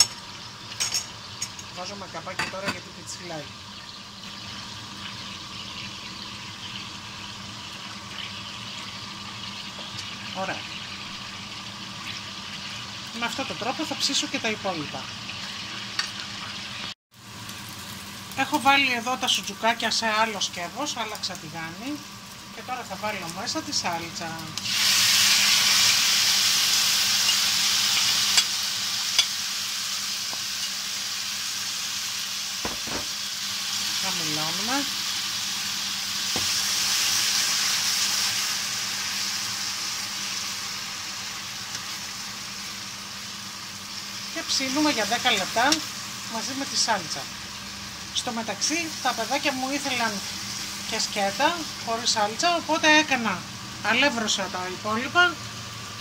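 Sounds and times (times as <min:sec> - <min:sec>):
meatballs sizzling in oil: 0:00.0 - 0:56.0.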